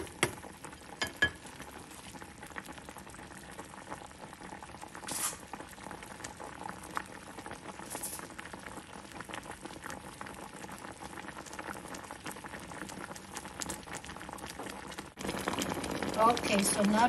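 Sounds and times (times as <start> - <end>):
syrup boiling and popping: 0.0 - 17.0.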